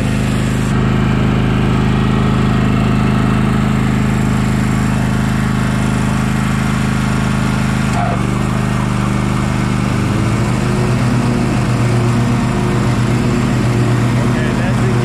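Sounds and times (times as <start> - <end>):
cutting blades humming: 0.0 - 15.0
mower engine running: 0.0 - 15.0.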